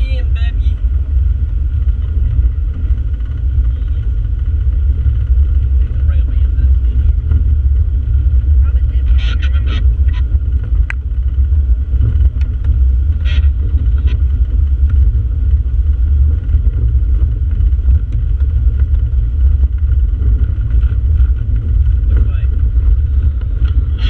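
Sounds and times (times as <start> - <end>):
engine and tyres rumbling: 0.0 - 24.0.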